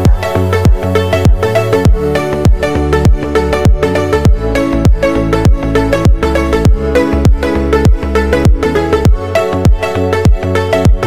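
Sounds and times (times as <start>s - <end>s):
deep kick drum beat: 0.0s - 11.0s
synth chords and melody: 0.0s - 11.0s.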